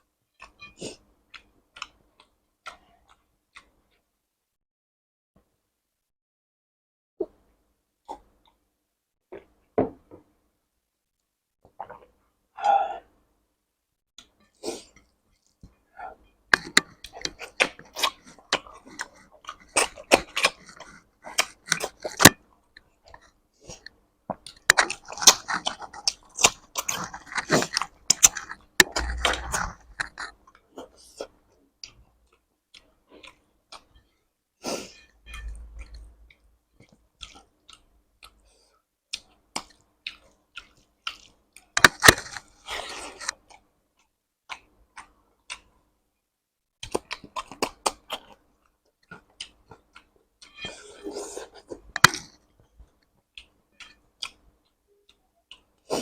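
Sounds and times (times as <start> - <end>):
person chewing food: 0.4 - 4.1, 11.7 - 13.0, 14.2 - 45.9, 46.8 - 56.0.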